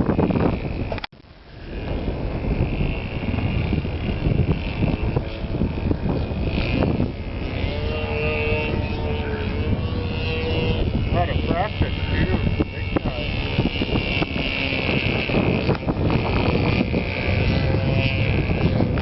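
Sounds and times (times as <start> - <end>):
model airplane engine buzzing: 0.0 - 19.0
wind buffeting microphone: 0.0 - 19.0.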